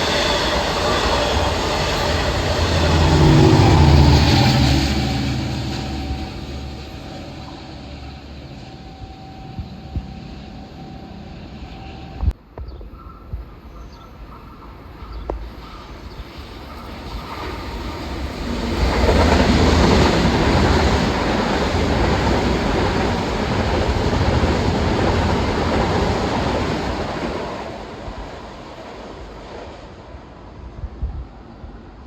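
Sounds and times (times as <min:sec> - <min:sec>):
train passing on tracks: 0:00.0 - 0:32.0.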